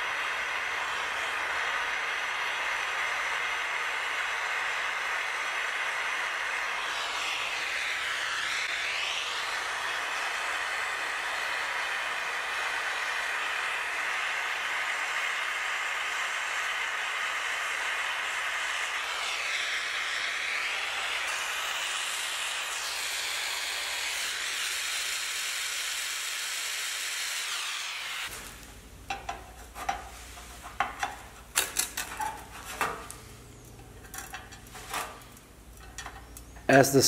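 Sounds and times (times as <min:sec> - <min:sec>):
gas torch flame hissing: 0:00.0 - 0:37.0.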